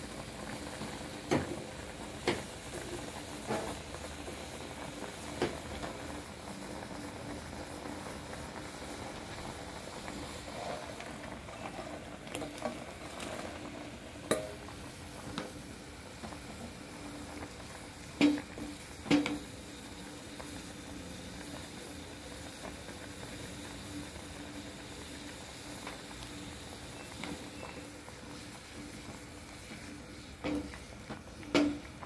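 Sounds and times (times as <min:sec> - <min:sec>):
curry bubbling in a pot: 0:00.0 - 0:32.0.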